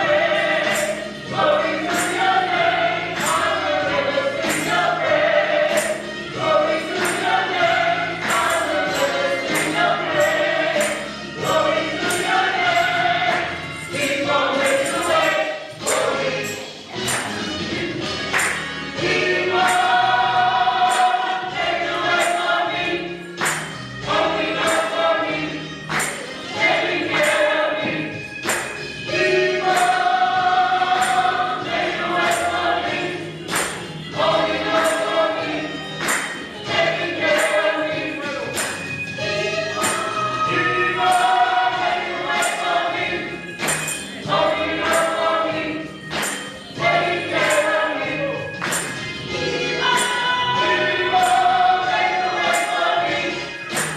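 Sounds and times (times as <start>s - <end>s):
gospel choir singing with music: 0.0s - 53.9s.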